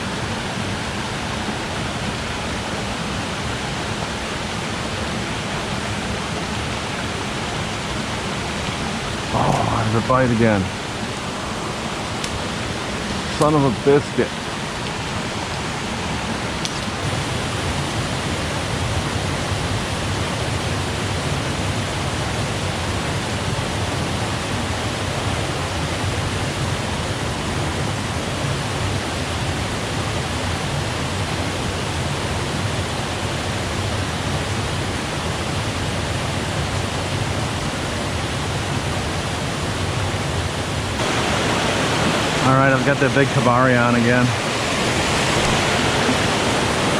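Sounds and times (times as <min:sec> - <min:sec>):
stream pouring down small waterfall: 0:00.0 - 0:46.9.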